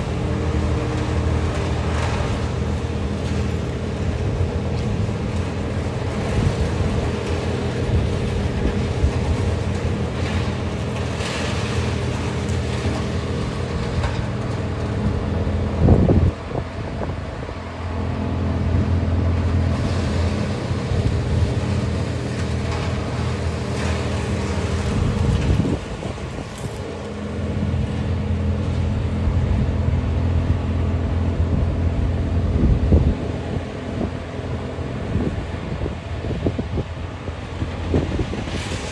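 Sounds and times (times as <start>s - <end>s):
crane engine running: 0.0s - 38.9s
wind buffeting microphone: 1.6s - 17.8s, 18.6s - 38.9s.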